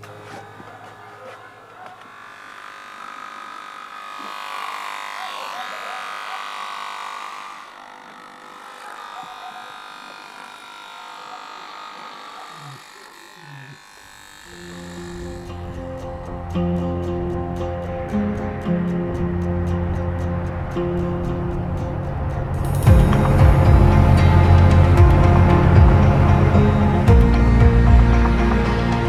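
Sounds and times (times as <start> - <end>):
electric hair clippers buzzing: 0.0 - 29.0.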